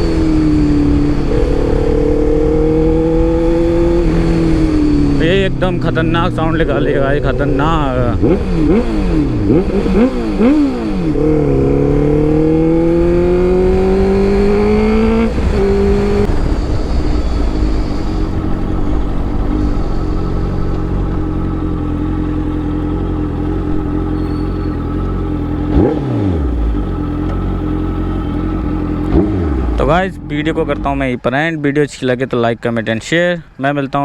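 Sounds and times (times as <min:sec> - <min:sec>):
motorcycle engine revving: 0:00.0 - 0:31.2.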